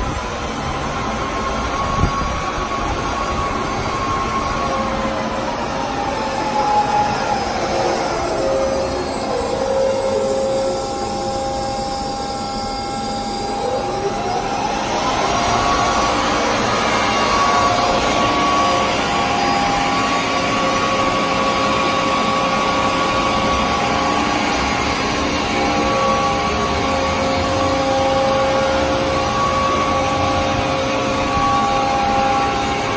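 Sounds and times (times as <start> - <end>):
bandsaw hum and whine: 0.0 - 32.9.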